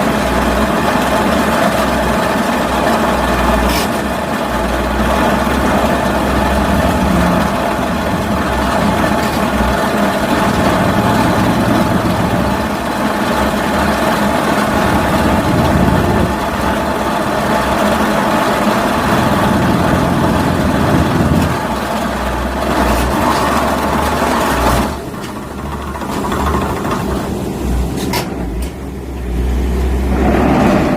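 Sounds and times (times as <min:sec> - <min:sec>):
heavy machinery engine drone: 0:00.0 - 0:30.9.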